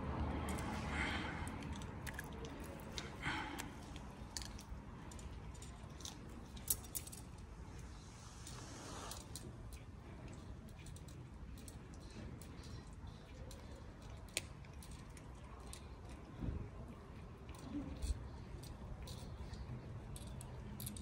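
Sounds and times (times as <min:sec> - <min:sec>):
cat crunching on bone: 0:00.3 - 0:07.4, 0:09.3 - 0:21.0.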